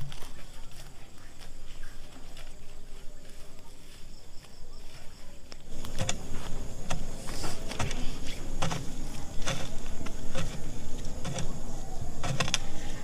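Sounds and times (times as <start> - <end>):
rustling in leafy plants: 0.0 - 13.0.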